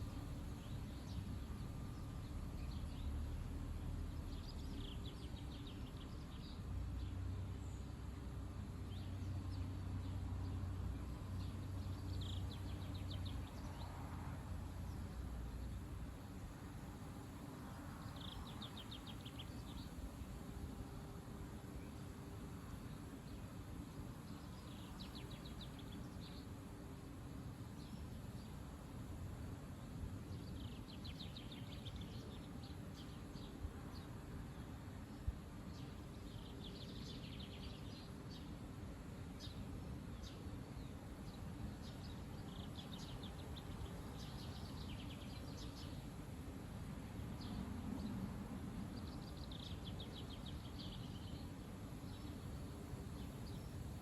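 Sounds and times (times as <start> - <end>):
small bird chirping trills: 0.0 - 54.0.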